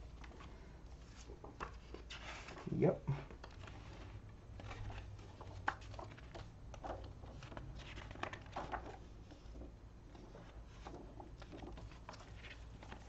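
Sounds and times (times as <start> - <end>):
paper rustling and tapping: 0.2 - 2.6, 3.2 - 13.0.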